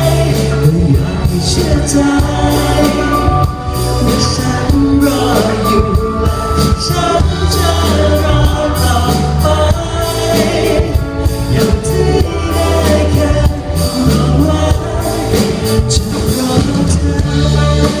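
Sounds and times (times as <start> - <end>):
live rock band: 0.0 - 18.0
man singing: 0.0 - 18.0.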